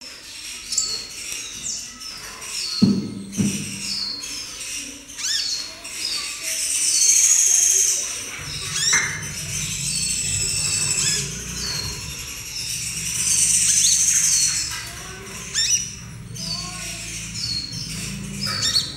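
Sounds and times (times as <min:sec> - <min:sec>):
bird twittering song: 0:00.2 - 0:18.9.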